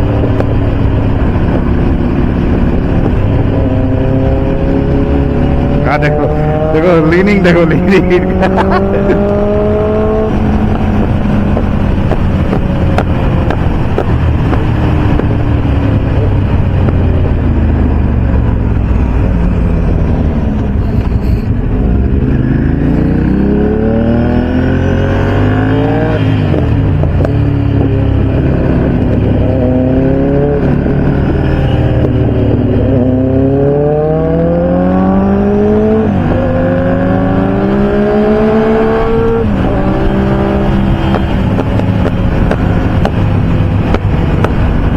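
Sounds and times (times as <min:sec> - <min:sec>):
motorcycle engines accelerating: 0:00.0 - 0:44.9.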